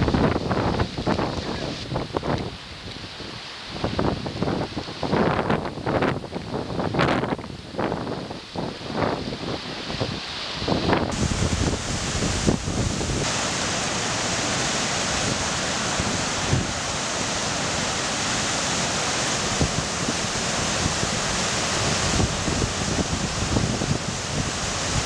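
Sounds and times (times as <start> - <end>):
wind buffeting microphone: 0.0 - 18.6, 19.2 - 25.0
floodwater rushing: 0.0 - 25.0.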